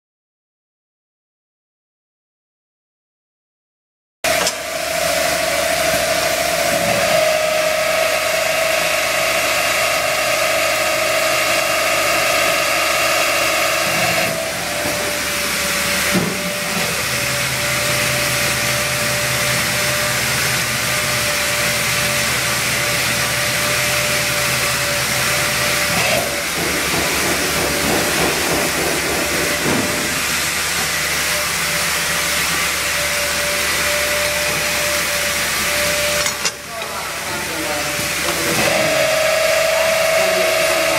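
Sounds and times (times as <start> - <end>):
machine motor whine: 4.3 - 40.9.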